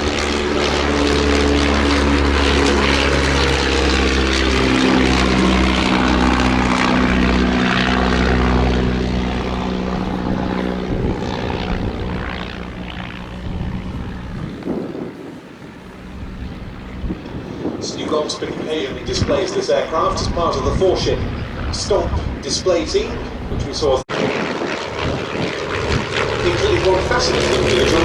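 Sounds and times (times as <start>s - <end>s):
propeller plane engine: 0.0s - 28.0s.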